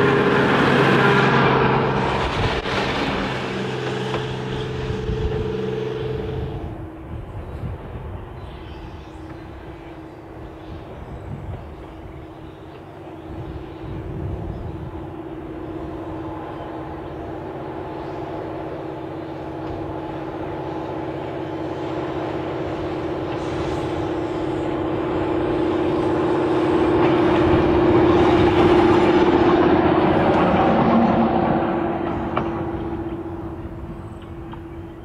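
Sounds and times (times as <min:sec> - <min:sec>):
rail motor engine drone: 0:00.0 - 0:35.0
wheel and rail noise: 0:00.0 - 0:35.0.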